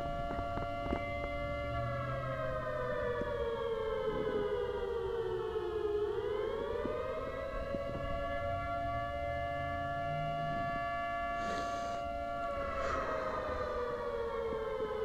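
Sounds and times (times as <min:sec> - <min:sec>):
two-note siren wail: 0:00.0 - 0:15.0.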